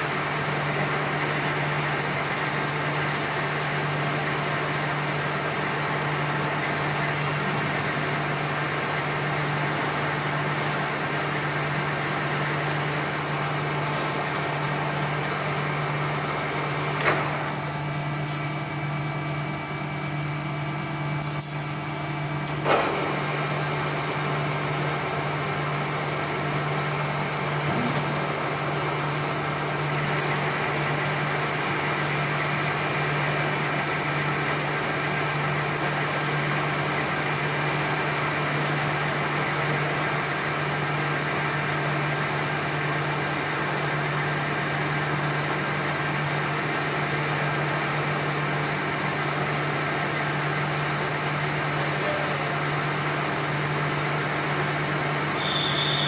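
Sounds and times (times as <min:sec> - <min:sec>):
shop machinery humming: 0:00.0 - 0:56.0.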